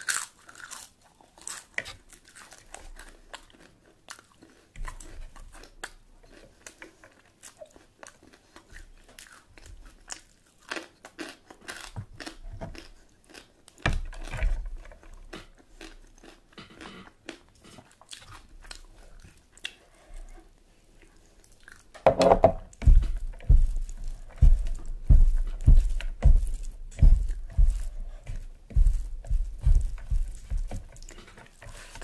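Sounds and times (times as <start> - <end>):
chewing and crunching food: 0.0 - 22.0, 22.7 - 32.0.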